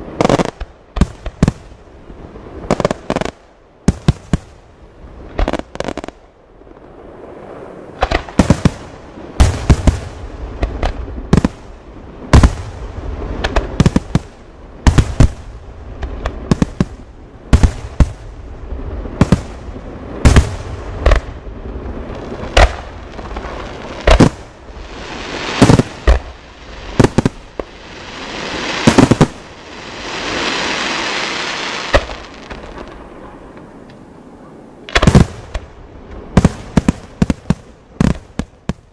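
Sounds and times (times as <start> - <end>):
fireworks bursting: 0.0 - 4.6, 5.2 - 34.0, 34.8 - 38.9
steady hiss: 0.0 - 38.9.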